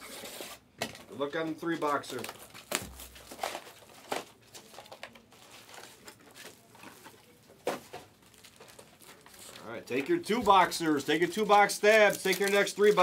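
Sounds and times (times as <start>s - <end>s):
cardboard rustling: 1.4s - 13.0s.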